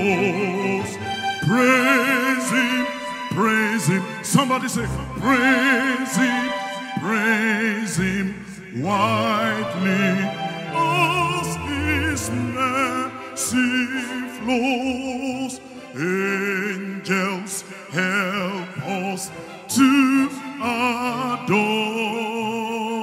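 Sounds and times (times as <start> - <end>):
man singing operatically: 0.0 - 23.0.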